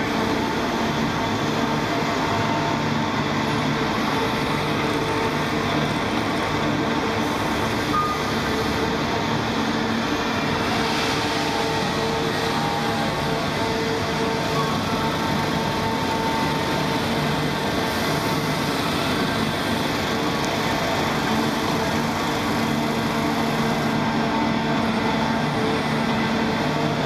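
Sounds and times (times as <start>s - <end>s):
machinery engine drone: 0.0s - 27.0s.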